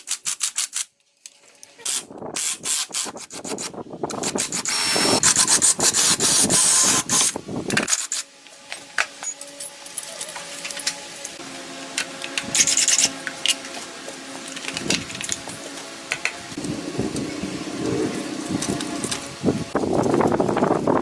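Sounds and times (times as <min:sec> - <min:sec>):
hand tools scraping and rubbing: 0:02.9 - 0:20.8.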